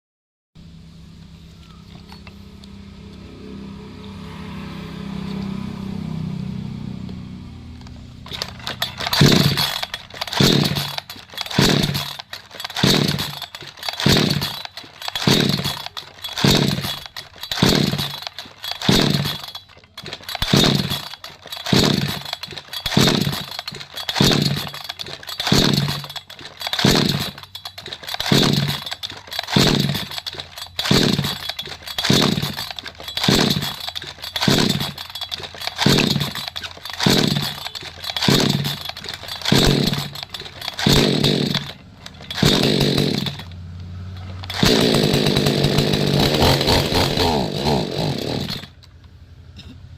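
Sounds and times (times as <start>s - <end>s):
chainsaw pull-start cranking: 1.8s - 2.7s, 7.8s - 49.2s.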